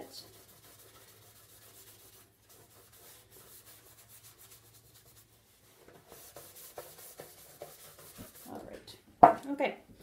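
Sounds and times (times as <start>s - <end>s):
rubbing on metal tin: 0.0s - 8.8s.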